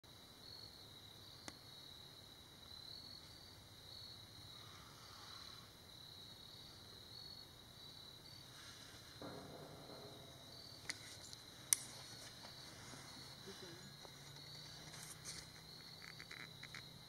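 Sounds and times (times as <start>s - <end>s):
crickets chirring: 0.1s - 17.0s.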